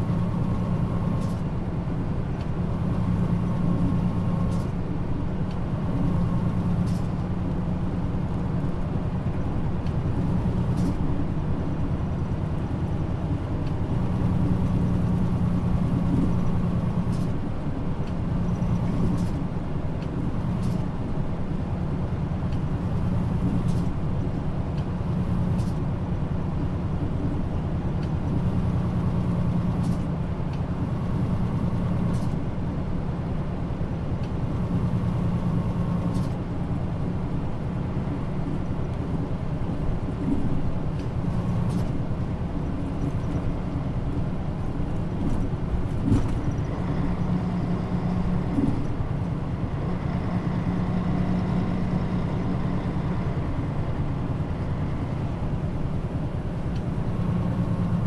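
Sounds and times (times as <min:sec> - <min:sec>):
bus diesel engine drone: 0:00.0 - 0:58.0
road noise: 0:00.0 - 0:58.0.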